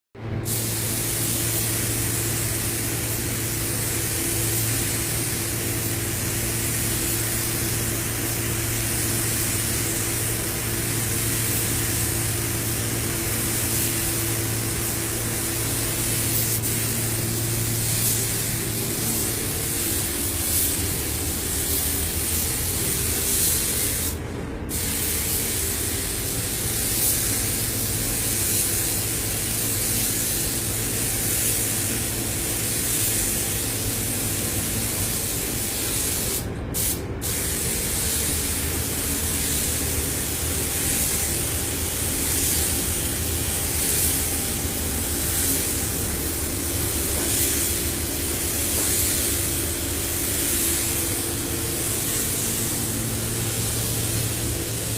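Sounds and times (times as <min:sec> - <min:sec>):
paint spray gun hissing: 0:00.4 - 0:54.9.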